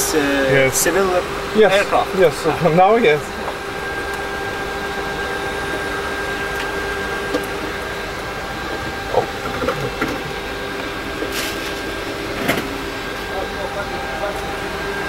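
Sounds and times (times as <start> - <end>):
electrical hum and whine: 0.0 - 15.0.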